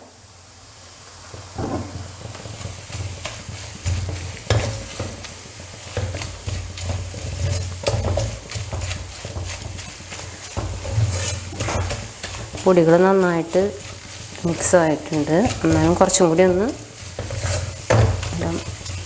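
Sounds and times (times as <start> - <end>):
frying sizzle: 0.0 - 19.0
spatula scraping a pan: 1.9 - 19.0.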